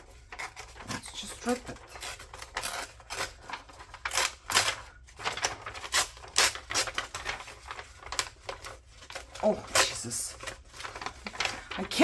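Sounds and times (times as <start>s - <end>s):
paper being torn by hand: 0.0s - 12.0s.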